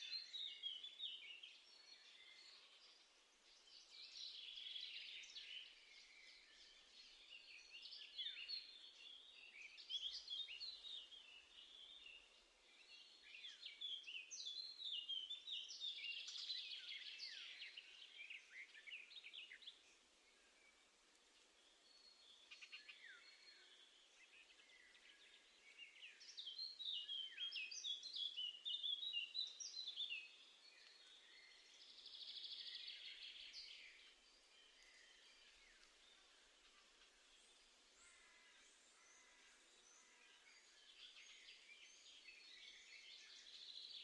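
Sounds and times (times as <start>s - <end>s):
faint outdoor hiss: 0.0s - 44.0s
songbirds singing: 0.0s - 44.0s.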